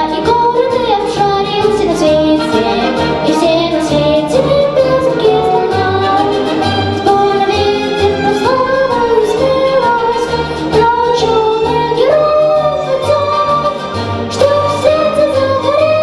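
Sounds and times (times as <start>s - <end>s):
child singing: 0.0s - 6.4s, 7.0s - 16.0s
steady bass: 0.0s - 16.0s
strings accompaniment: 0.0s - 16.0s.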